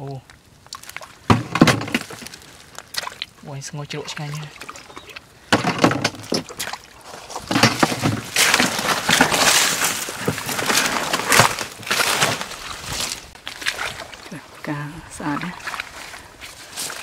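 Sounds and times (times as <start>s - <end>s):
hands squelching in wet mud: 0.3s - 1.3s, 1.9s - 5.5s, 6.4s - 7.5s, 8.2s - 17.0s.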